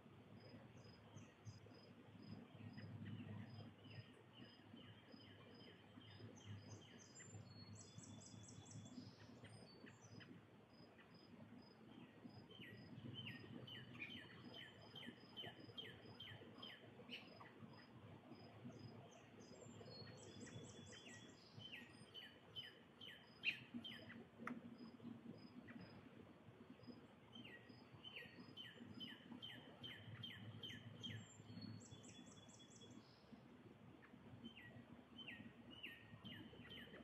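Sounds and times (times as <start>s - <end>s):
small birds chirping: 0.4s - 26.2s, 26.8s - 33.4s, 34.0s - 37.0s.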